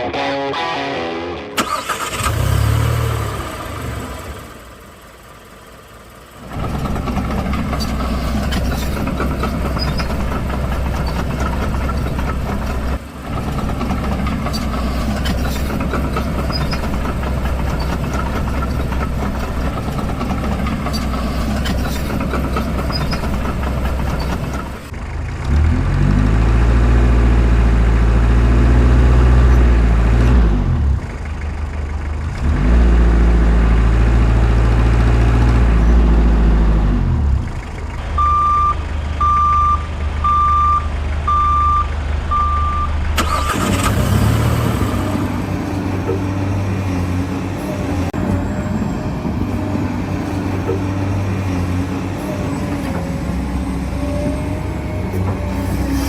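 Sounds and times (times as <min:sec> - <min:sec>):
low engine sound: 0:01.6 - 0:56.0
deep engine drone revving: 0:02.0 - 0:04.9, 0:06.4 - 0:31.4, 0:32.2 - 0:56.0.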